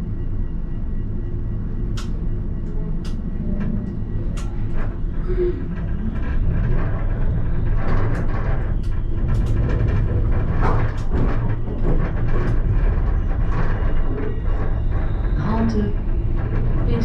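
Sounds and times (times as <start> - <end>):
tram rumbling along track: 0.0 - 17.0.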